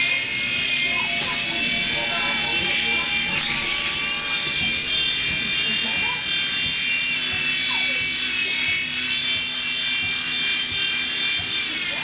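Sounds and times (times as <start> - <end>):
toy helicopter rotor whine: 0.0 - 12.0.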